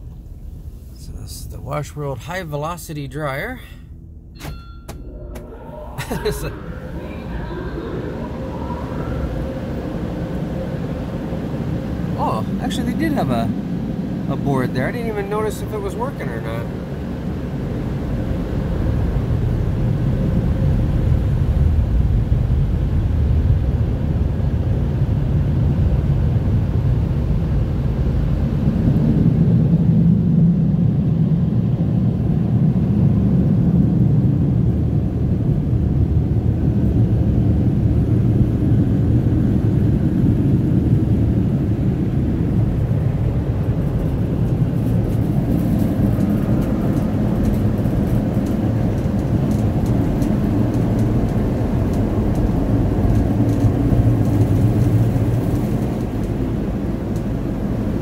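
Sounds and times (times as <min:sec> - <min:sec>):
car wash dryer blowing air: 0:00.0 - 0:58.0.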